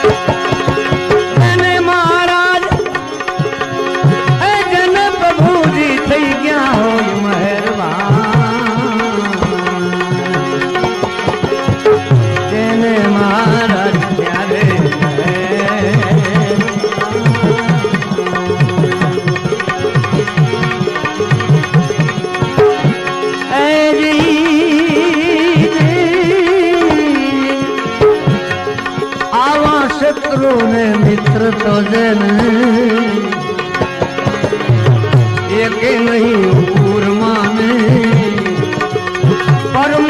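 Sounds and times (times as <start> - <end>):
person singing: 0.0 - 40.0
tabla playing quick rhythm: 0.0 - 40.0.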